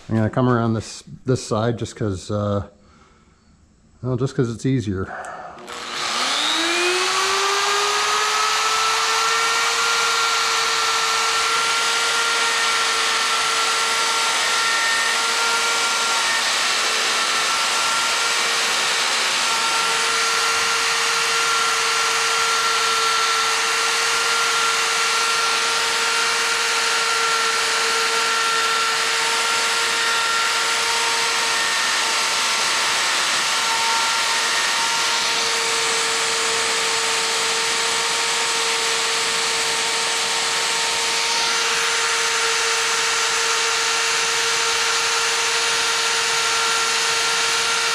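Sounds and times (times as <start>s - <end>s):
die grinder whining: 5.2s - 47.9s.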